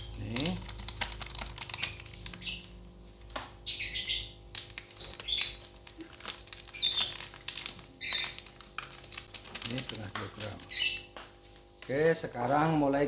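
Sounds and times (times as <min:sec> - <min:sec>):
plastic sachets crinkling: 0:00.0 - 0:12.7.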